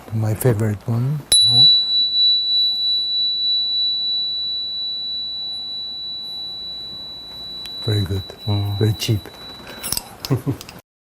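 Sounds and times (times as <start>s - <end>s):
small metal chime ringing: 1.3s - 10.8s.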